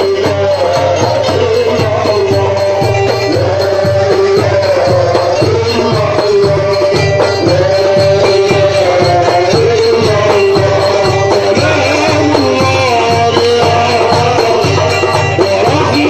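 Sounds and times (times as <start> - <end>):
bass and percussion beat: 0.0 - 16.0.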